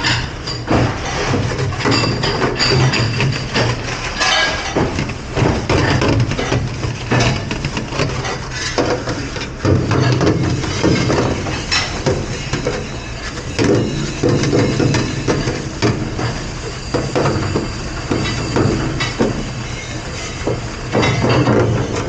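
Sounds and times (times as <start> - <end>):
dishes clattering and knocking: 0.0 - 22.0.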